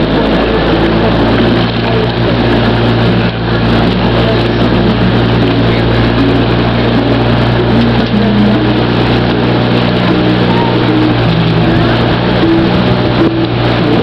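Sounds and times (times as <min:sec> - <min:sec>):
boat engine droning: 0:00.0 - 0:14.0
rushing wind and water: 0:00.0 - 0:14.0.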